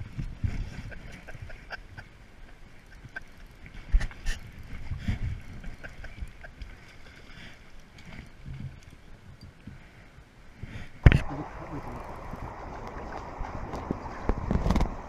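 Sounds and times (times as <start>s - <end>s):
wind and handling rumble: 0.0s - 15.0s.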